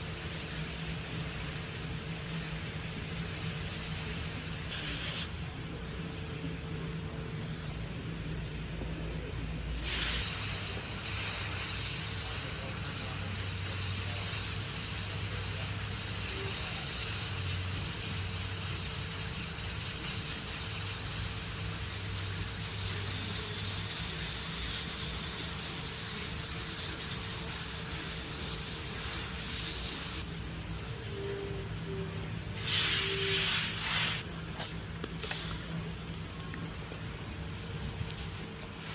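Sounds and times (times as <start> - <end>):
compressed air hissing: 0.0 - 35.9.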